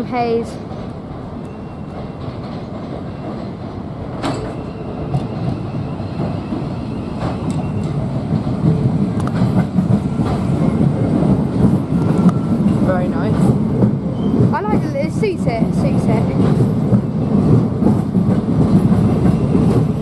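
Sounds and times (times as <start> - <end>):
passenger train approaching: 0.0 - 20.0
wheels clicking over rail joints: 0.0 - 20.0.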